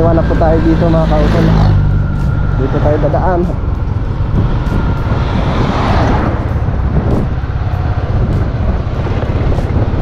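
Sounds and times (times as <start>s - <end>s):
motorcycle engine running: 0.0s - 10.0s
road noise: 0.0s - 10.0s
wind rumble on microphone: 0.0s - 10.0s.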